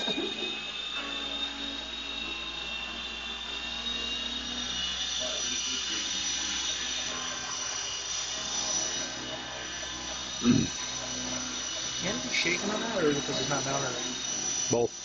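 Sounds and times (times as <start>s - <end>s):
model helicopter whine: 0.0s - 15.0s.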